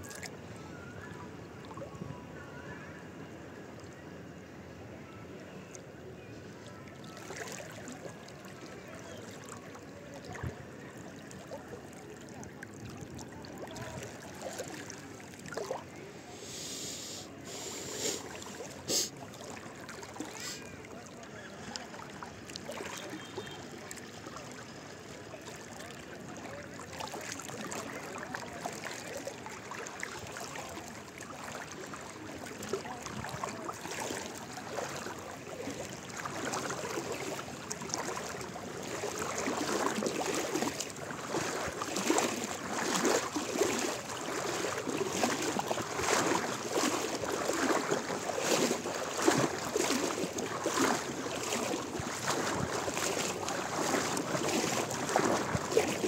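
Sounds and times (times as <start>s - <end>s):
seawater sloshing and lapping: 0.0s - 0.3s, 6.9s - 16.0s, 17.2s - 56.0s
small water splashes: 0.0s - 2.0s, 6.6s - 16.2s, 17.4s - 56.0s.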